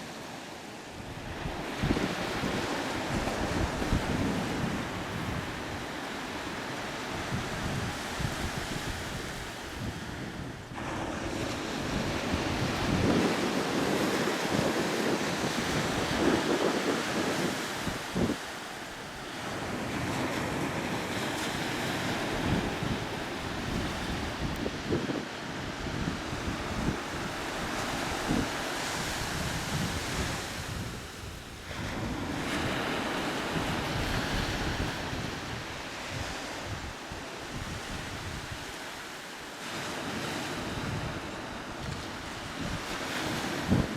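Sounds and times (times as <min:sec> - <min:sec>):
waves breaking on a beach: 0:00.0 - 0:43.9
wind buffeting the microphone: 0:00.9 - 0:43.9.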